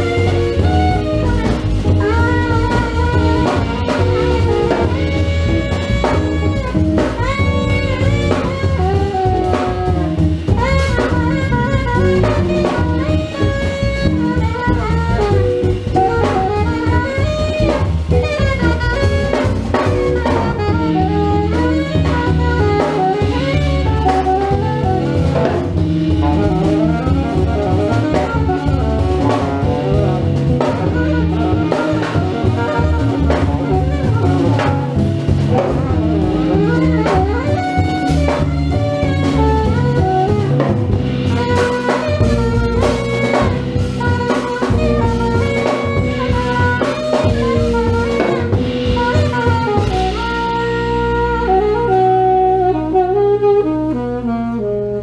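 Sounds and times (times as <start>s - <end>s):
alto saxophone melody: 0.0s - 55.0s
drum kit: 0.0s - 55.0s
electric guitar: 0.0s - 55.0s
upright double bass: 0.0s - 55.0s.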